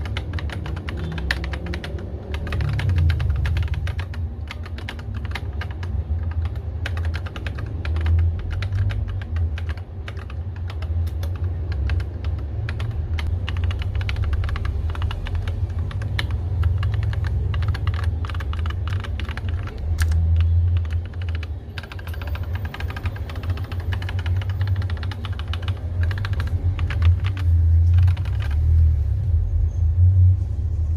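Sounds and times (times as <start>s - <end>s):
mechanical keyboard typing: 0.0s - 28.9s.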